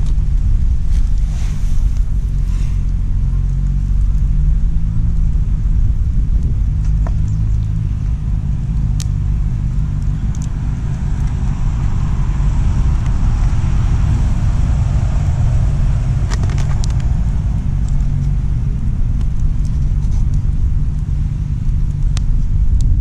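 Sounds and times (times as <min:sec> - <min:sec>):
campfire crackling: 0:00.0 - 0:23.0
low rumble: 0:00.0 - 0:23.0.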